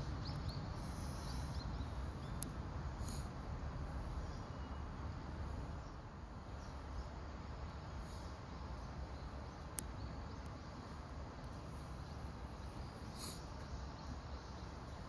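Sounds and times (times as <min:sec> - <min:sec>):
low rumble with soft hiss: 0:00.0 - 0:15.0.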